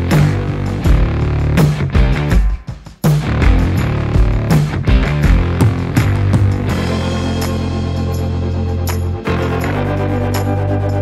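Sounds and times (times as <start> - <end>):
background music: 0.0 - 11.0
percussion hits: 0.0 - 11.0.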